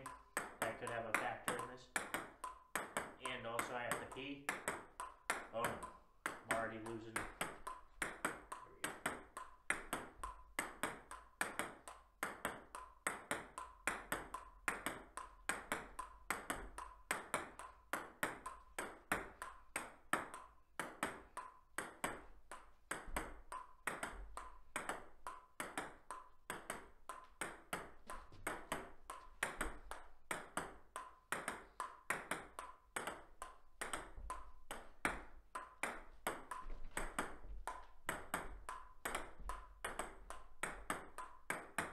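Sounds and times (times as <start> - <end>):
ping-pong ball clicking off paddles: 0.0 - 41.9.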